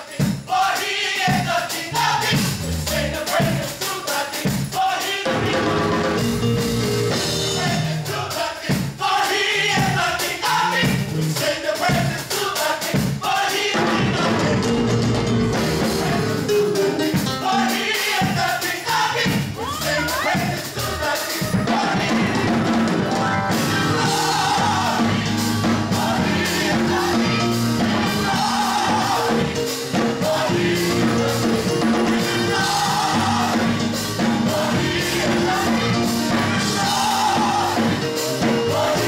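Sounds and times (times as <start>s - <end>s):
gospel choir singing in harmony: 0.0s - 39.0s
instrumental accompaniment: 0.2s - 39.0s.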